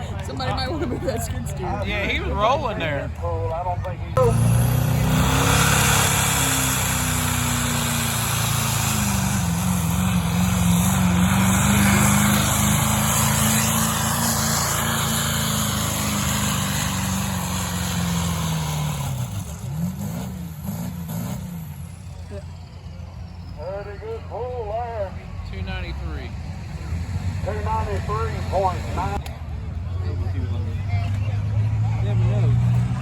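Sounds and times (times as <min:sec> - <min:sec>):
engine at full throttle: 0:04.1 - 0:23.8, 0:24.4 - 0:33.0.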